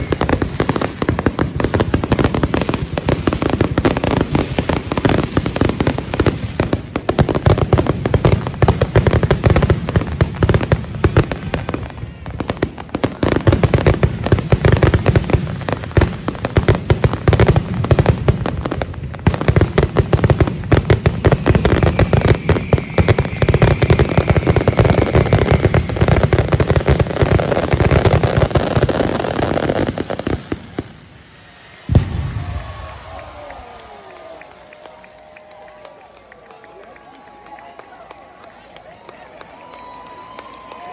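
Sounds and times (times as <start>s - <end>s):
fireworks booms and crackling: 0.0s - 35.6s.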